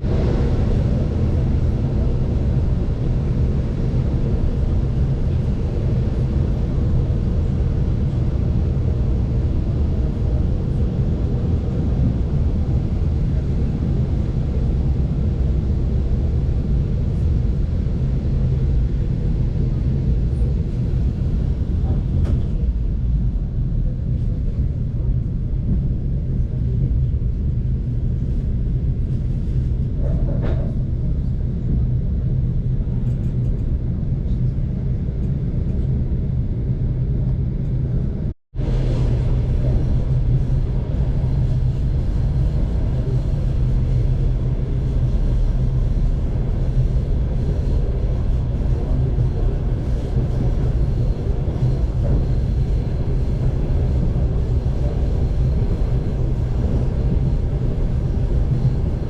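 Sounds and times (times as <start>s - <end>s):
train wheels running on rails: 0.0s - 36.0s, 37.1s - 59.0s
diesel locomotive drone: 0.0s - 59.0s.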